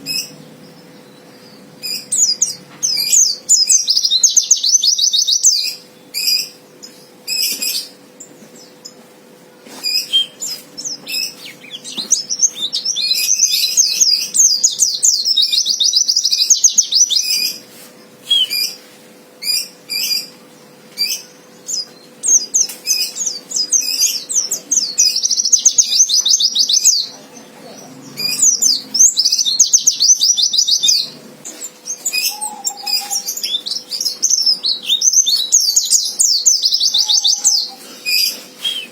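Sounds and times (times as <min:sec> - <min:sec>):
bird singing high twittering trills: 0:00.0 - 0:09.0, 0:09.8 - 0:17.6, 0:18.3 - 0:38.9.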